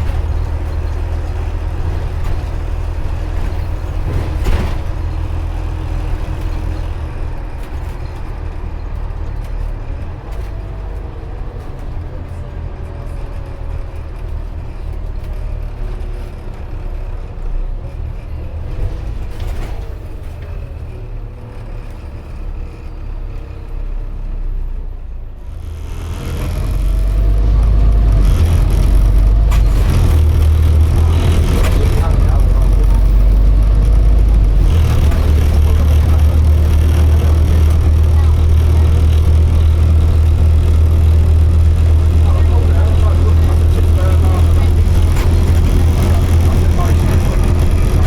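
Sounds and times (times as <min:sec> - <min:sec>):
bus diesel engine rumble: 0:00.0 - 0:48.0.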